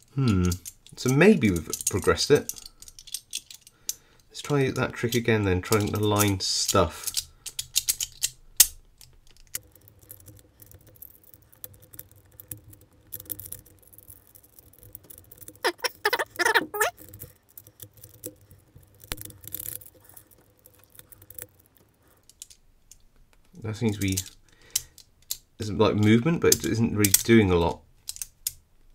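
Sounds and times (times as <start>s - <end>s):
metal puzzle pieces clicking: 0.1s - 23.1s, 23.9s - 28.6s.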